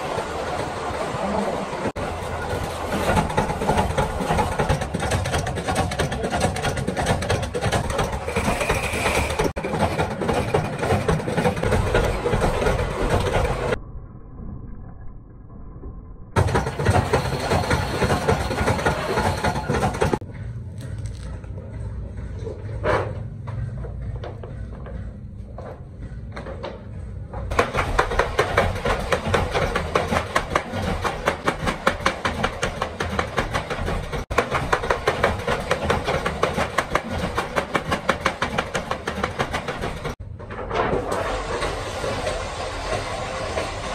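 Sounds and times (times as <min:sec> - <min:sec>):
power press clattering and knocking: 0:02.0 - 0:13.8, 0:16.4 - 0:20.2, 0:21.7 - 0:43.9.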